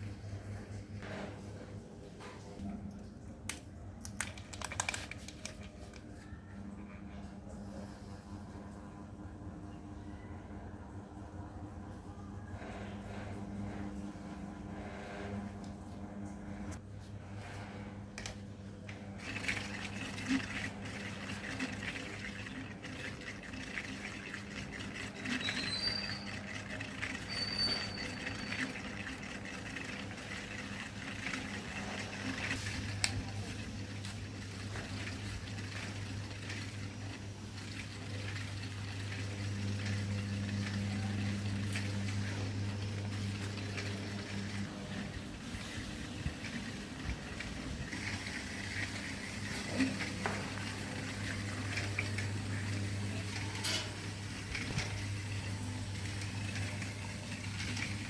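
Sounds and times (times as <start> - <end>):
small fan motor humming: 0.0 - 58.0.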